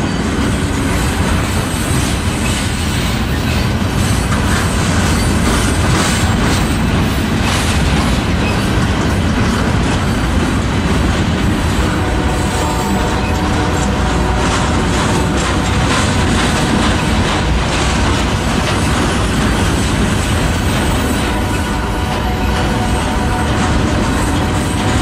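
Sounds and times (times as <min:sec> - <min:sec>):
freight train rumbling past: 0:00.0 - 0:25.0
wheels clattering over rail joints: 0:00.0 - 0:25.0.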